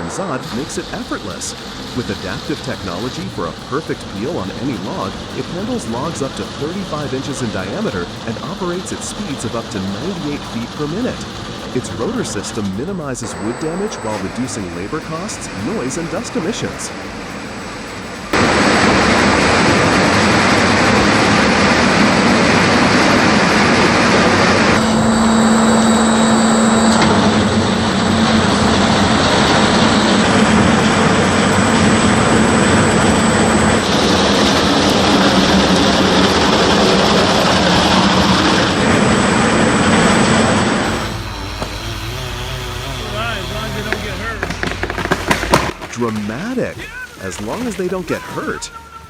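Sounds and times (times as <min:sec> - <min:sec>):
low hum: 0:00.0 - 0:47.7
heavy wood-processing machinery: 0:00.0 - 0:48.7.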